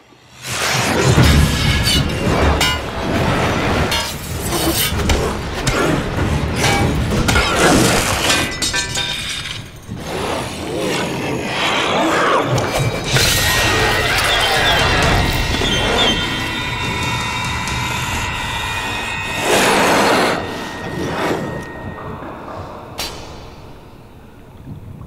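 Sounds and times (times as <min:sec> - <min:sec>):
loud film music: 0:00.3 - 0:25.0.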